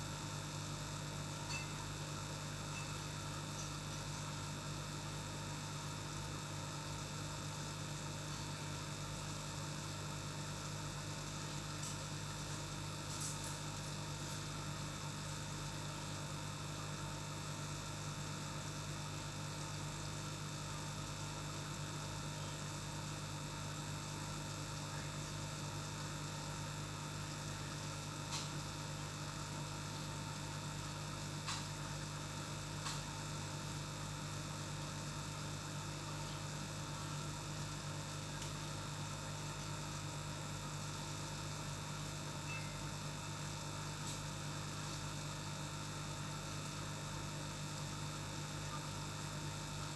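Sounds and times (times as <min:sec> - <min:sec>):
aquarium air pump humming: 0:00.0 - 0:49.9.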